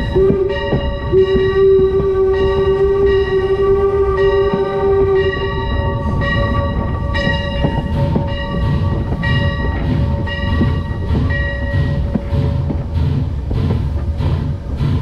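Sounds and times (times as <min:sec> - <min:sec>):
locomotive bell ringing: 0:00.0 - 0:12.8
locomotive rumbling on track: 0:00.0 - 0:15.0.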